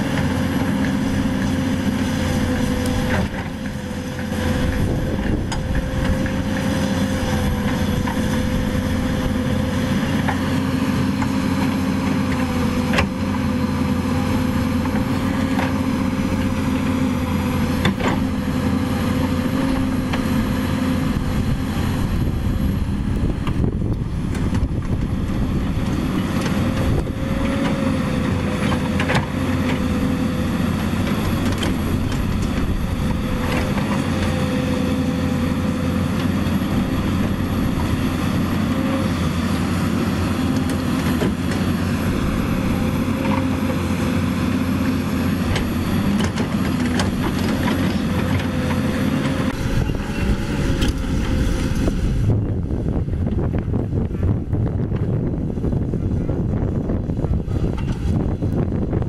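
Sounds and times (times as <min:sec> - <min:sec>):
constant whine: 0:00.0 - 0:59.0
excavator diesel engine running: 0:00.0 - 0:59.0.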